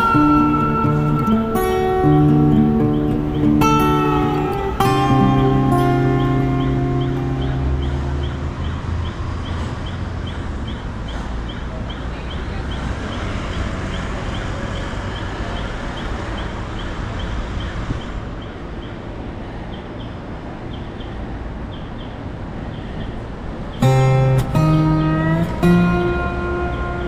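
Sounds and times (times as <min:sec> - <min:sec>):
high chirping: 0:00.0 - 0:27.0
street traffic: 0:00.0 - 0:27.0.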